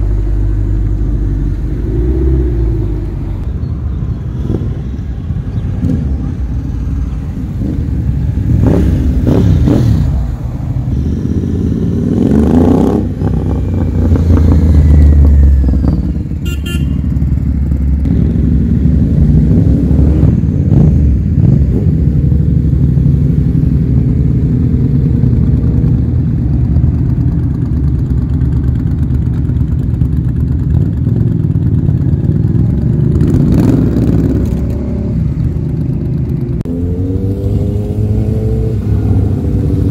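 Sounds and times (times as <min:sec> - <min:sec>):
motorcycles passing by: 0:00.0 - 0:39.9.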